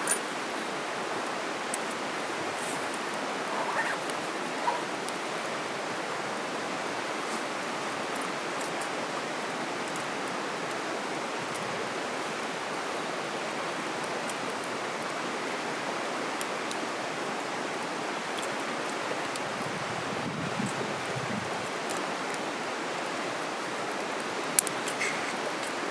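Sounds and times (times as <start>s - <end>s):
stream rushing: 0.0s - 25.9s.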